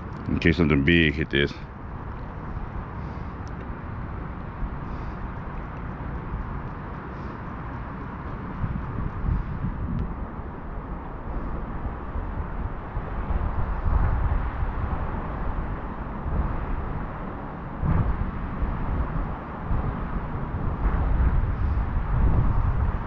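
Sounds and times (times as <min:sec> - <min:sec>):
steady outdoor rush: 0:00.0 - 0:23.0
wind buffeting microphone: 0:00.0 - 0:23.0.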